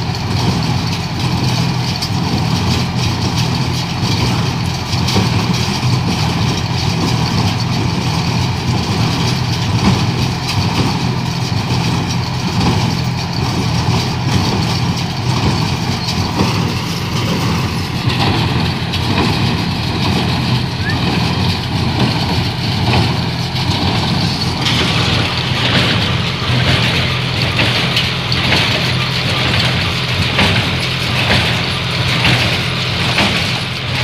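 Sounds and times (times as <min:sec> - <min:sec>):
vehicle engine running steadily: 0:00.0 - 0:34.0.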